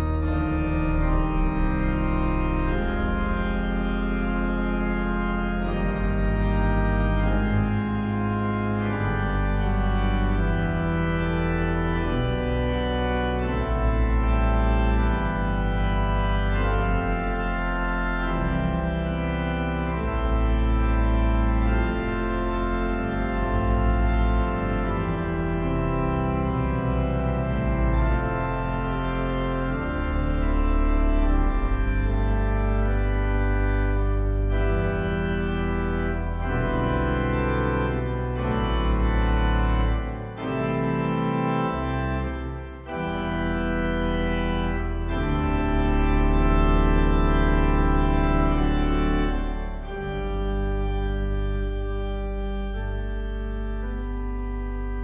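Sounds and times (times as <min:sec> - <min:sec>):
organ chords with bass pedals: 0:00.0 - 0:55.0.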